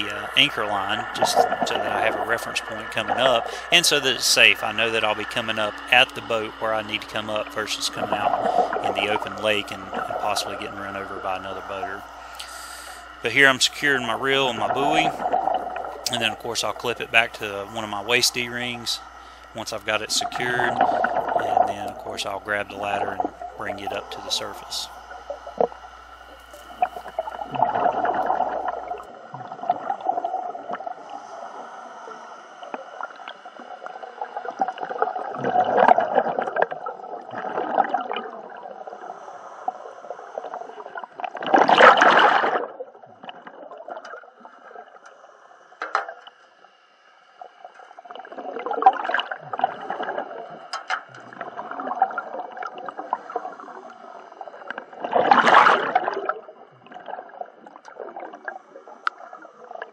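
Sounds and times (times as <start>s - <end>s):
diver exhaling bubbles underwater: 0.0s - 31.7s, 32.6s - 39.2s, 40.3s - 44.9s, 48.0s - 59.9s.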